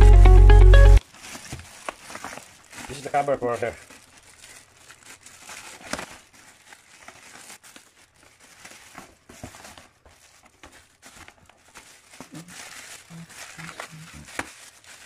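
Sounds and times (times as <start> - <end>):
crinkling and rustling: 1.0 - 15.0.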